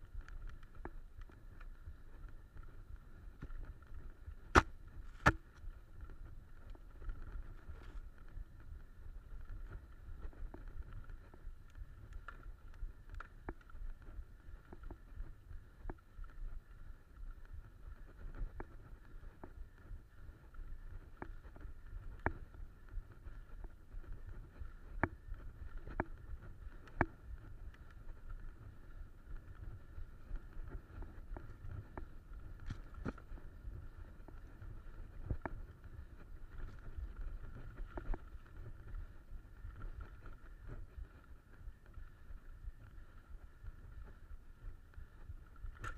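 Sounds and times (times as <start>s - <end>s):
bike clicks and rattles: 0.0s - 44.2s, 44.8s - 45.9s
bike tyres rumbling on dirt: 0.0s - 45.9s.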